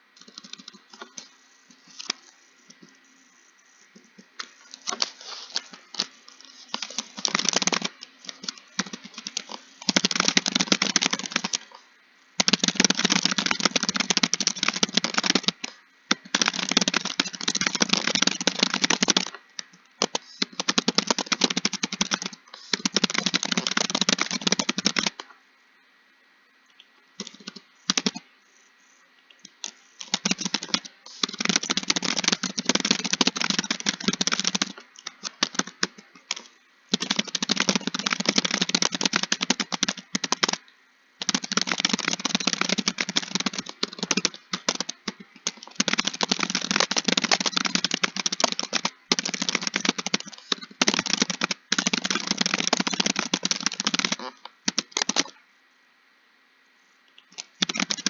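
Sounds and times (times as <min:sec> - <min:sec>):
fast typing on keyboard: 0:00.2 - 0:01.3, 0:04.4 - 0:11.8, 0:12.4 - 0:25.2, 0:27.2 - 0:28.2, 0:29.4 - 0:55.4, 0:57.3 - 0:58.0.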